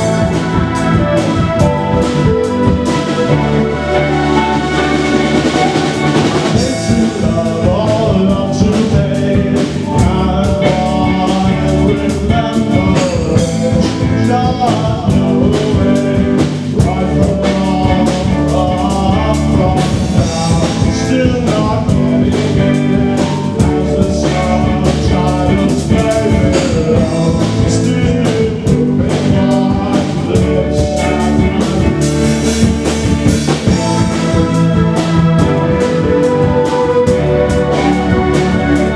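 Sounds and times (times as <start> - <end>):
man singing: 0.0 - 3.6, 5.8 - 38.9
drum kit beat: 0.0 - 38.9
electric guitar: 0.0 - 38.9.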